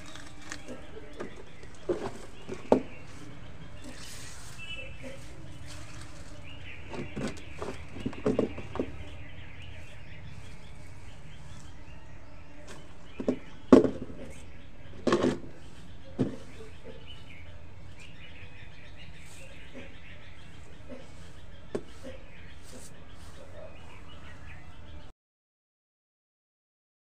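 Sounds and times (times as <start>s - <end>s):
hands scraping dirt on concrete: 0.0s - 24.8s
outdoor background noise: 0.0s - 25.1s.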